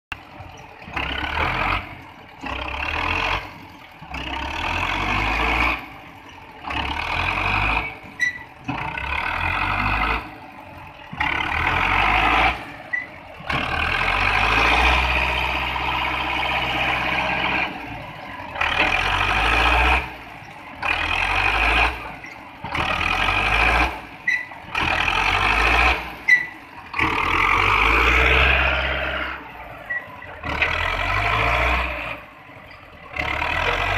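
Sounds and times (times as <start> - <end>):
tractor diesel engine under load: 0.1 - 33.9.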